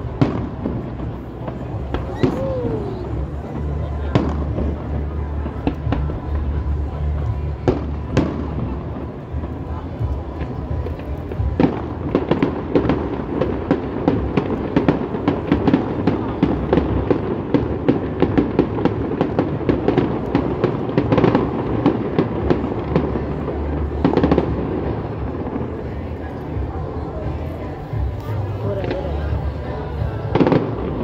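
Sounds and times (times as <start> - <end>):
fireworks popping and crackling: 0.0 - 31.0.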